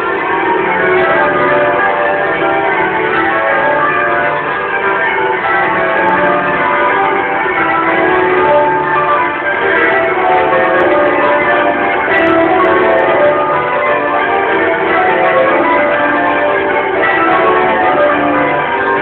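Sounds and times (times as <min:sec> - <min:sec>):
church bells change ringing: 0:00.0 - 0:19.0.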